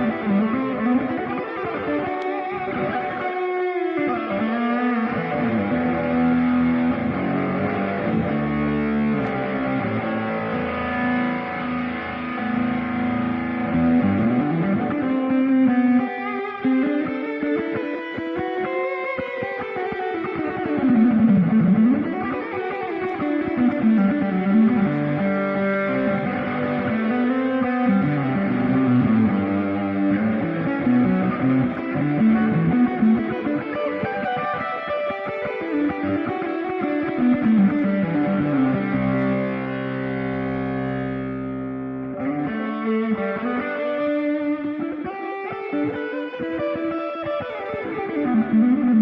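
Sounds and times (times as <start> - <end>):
electric guitar held notes: 0.0 - 49.0.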